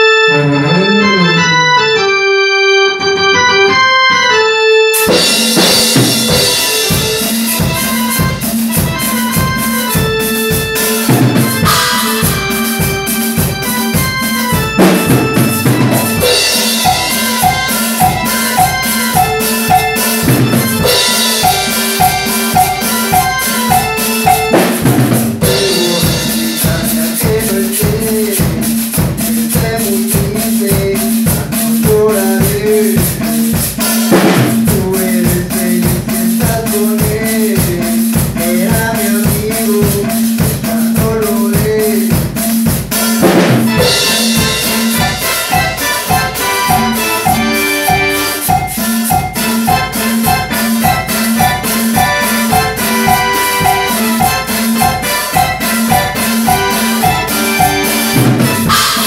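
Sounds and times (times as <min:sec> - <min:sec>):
electronic keyboard melody: 0:00.0 - 0:40.5, 0:41.3 - 0:59.0
drum kit beat: 0:03.0 - 0:59.0.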